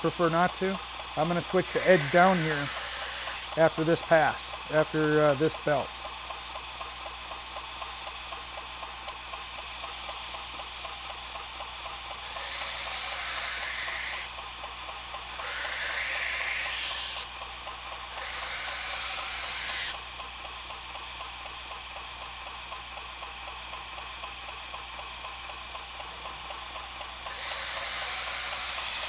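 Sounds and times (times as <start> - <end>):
belt grinder running: 0.0 - 29.0.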